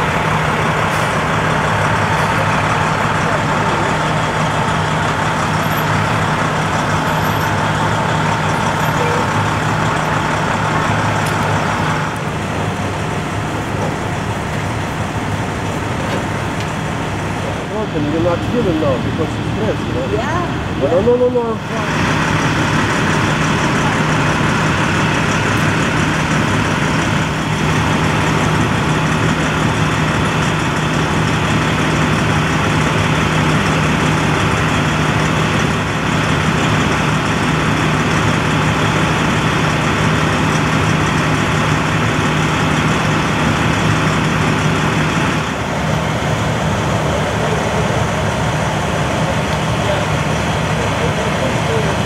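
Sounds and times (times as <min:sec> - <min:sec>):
emergency vehicle engines idling: 0:00.0 - 0:52.0.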